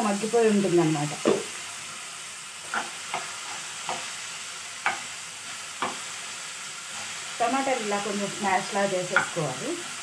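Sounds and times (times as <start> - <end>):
faint sizzle of frying: 0.0 - 10.0.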